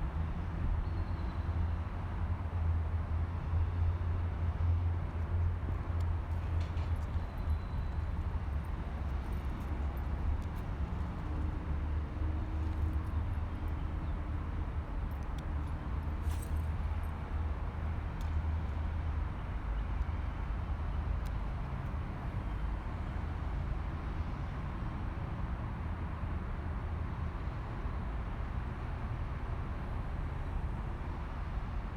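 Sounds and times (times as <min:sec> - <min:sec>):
city traffic rumble: 0:00.0 - 0:31.9.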